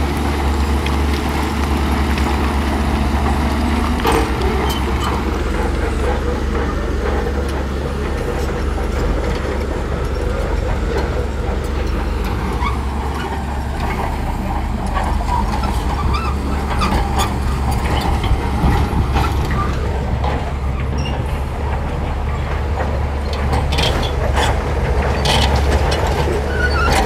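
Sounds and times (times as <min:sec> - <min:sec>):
bulldozer diesel engine running: 0:00.0 - 0:27.0
metallic clanks from tracks: 0:02.8 - 0:27.0.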